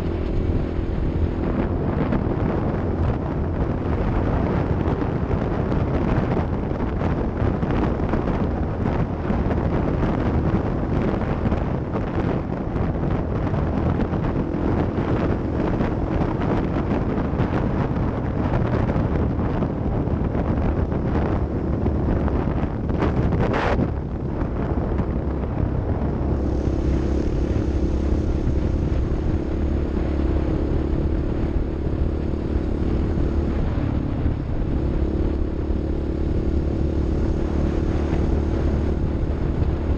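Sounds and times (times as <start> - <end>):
vehicle engine running: 0.0 - 39.9
wind noise on microphone: 0.0 - 39.9.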